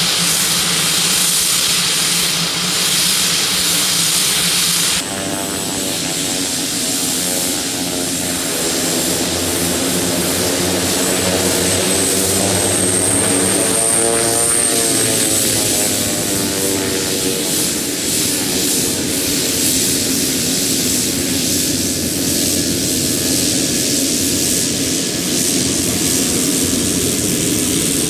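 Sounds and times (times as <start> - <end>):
turboprop engines running: 0.0 - 28.0.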